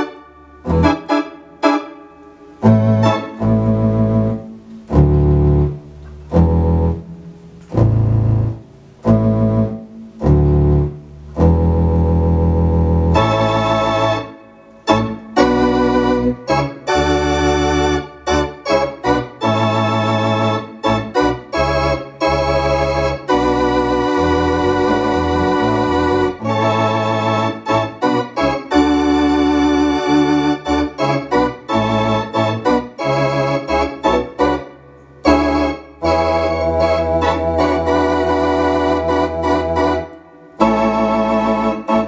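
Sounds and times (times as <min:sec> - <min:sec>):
electronic organ chords with vibrato: 0:00.0 - 0:42.0
low organ bass notes: 0:00.0 - 0:42.0.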